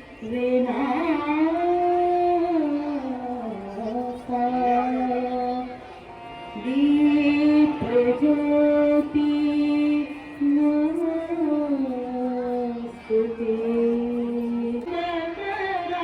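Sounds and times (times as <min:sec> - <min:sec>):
woman singing long held notes: 0:00.0 - 0:16.0.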